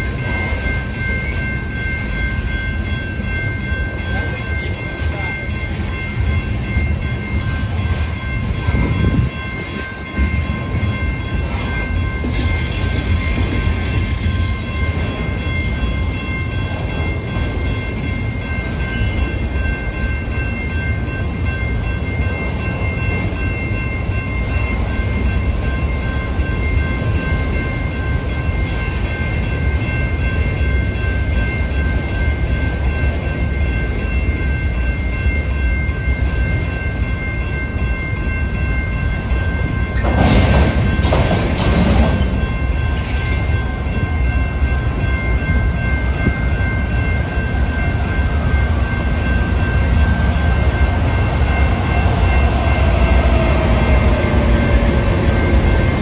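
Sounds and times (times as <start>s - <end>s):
freight train wheels rumbling: 0.0s - 56.0s
high ringing: 0.0s - 56.0s.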